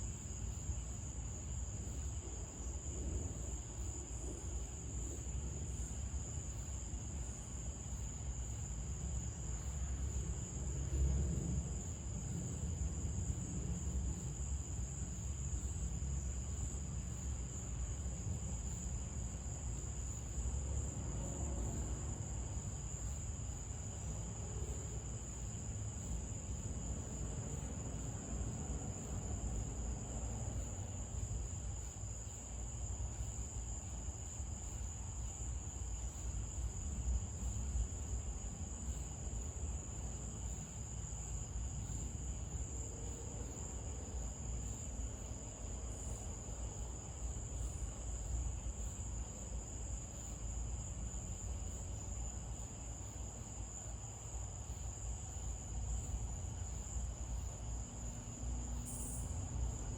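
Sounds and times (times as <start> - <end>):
constant low rumble: 0.0 - 59.9
crickets trilling: 0.0 - 59.9.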